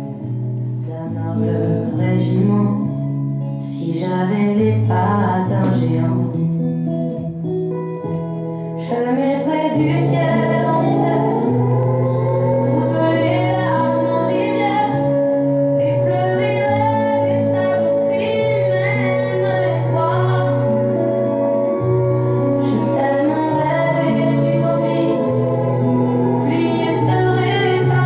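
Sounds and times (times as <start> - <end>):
woman singing: 0.8 - 6.8, 8.8 - 28.0
instrumental accompaniment: 5.5 - 28.0.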